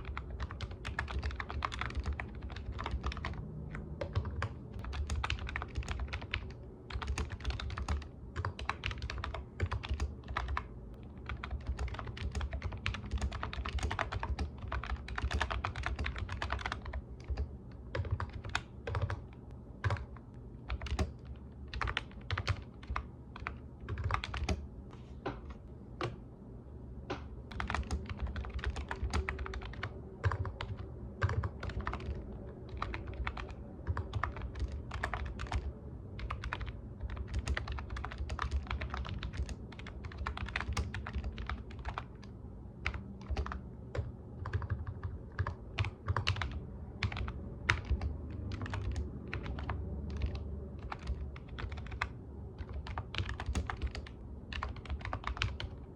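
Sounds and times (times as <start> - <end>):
computer keyboard typing: 0.0 - 24.6, 27.1 - 55.9.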